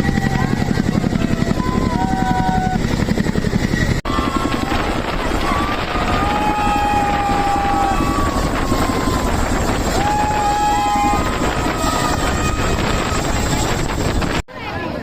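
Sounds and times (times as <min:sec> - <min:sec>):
helicopter rotor chop: 0:00.0 - 0:14.4.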